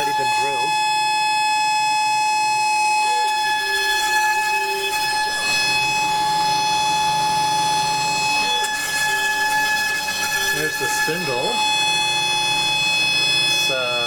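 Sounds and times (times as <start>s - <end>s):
spindle high-pitched whine: 0.0s - 14.0s.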